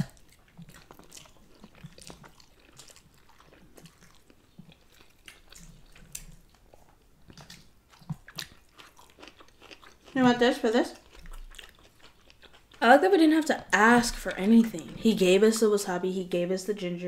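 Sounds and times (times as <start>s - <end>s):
chewing and mouth sounds: 0.0s - 15.8s.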